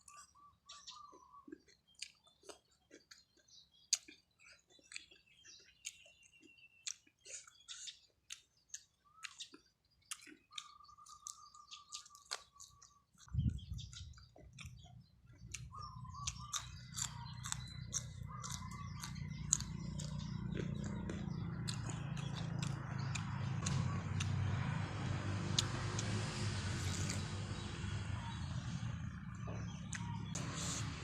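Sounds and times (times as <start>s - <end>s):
close chewing with wet smacks: 0.0s - 28.1s.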